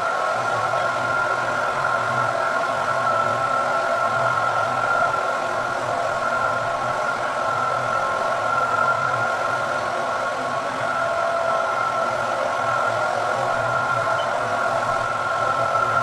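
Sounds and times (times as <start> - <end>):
floor buffer motor hum and whine: 0.0 - 16.0.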